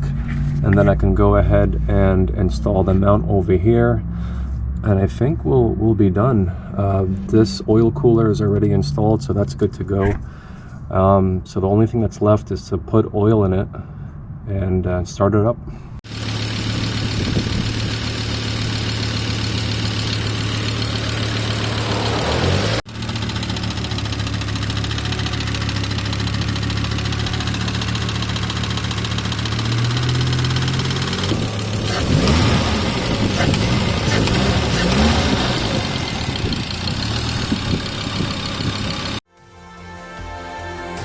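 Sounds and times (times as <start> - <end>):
car engine idling and revving: 0.0 - 10.8, 16.0 - 39.3.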